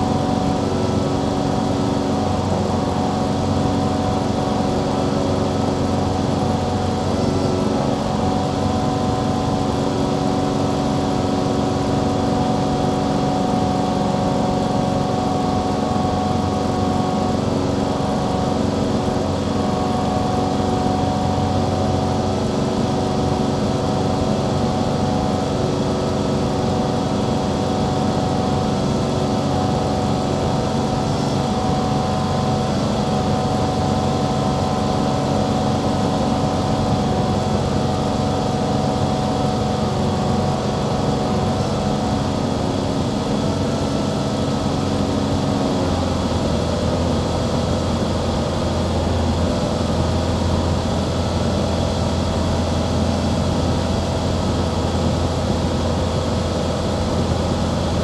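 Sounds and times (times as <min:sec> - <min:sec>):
airplane engine drone in cabin: 0:00.0 - 0:58.0.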